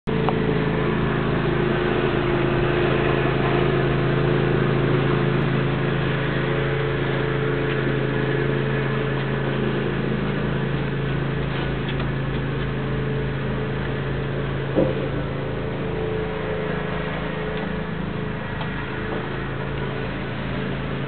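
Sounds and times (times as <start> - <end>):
machine humming: 0.1 - 21.0.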